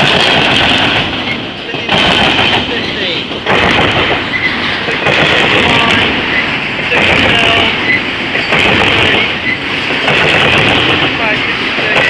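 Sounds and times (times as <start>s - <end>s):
train wheels rumbling on rails: 0.0s - 12.0s
wheels squealing: 0.8s - 12.0s.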